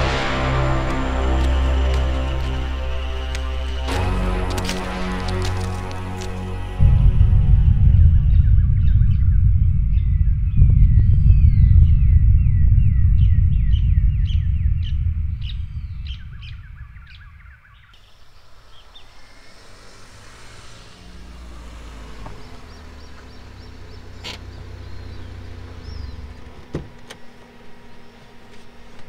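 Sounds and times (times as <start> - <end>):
loud low rumble: 0.0 - 26.7
birds chirping: 0.0 - 29.0
car engine approaching: 0.0 - 29.0.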